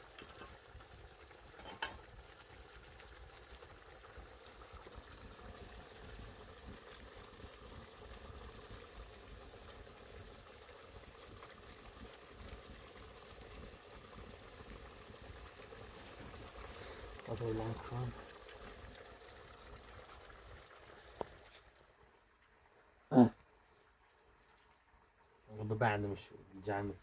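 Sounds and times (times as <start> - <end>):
food bubbling and sizzling in pot: 0.0 - 27.0.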